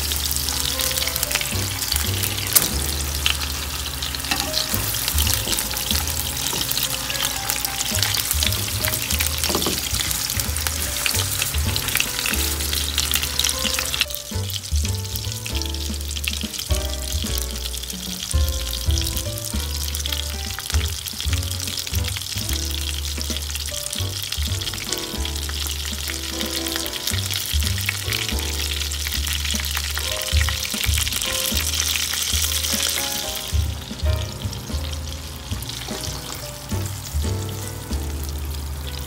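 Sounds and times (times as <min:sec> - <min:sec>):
background music with bass line: 0:00.0 - 0:39.0
patties sizzling in hot oil: 0:00.0 - 0:39.0.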